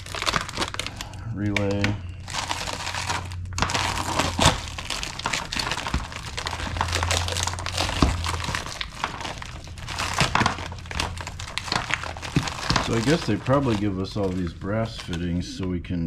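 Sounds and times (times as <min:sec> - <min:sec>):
plastic bags crinkling: 0:00.0 - 0:15.4
steady low hum: 0:00.0 - 0:16.0.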